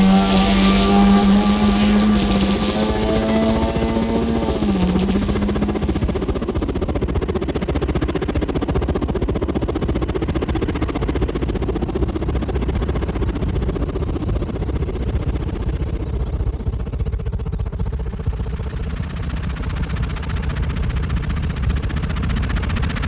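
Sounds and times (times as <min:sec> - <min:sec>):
rumbling sci-fi engine drone: 0:00.0 - 0:23.0.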